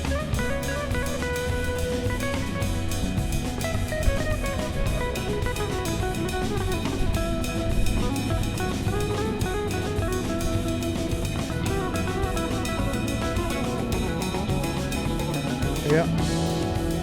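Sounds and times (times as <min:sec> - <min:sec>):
guitar and drum music: 0:00.0 - 0:17.0.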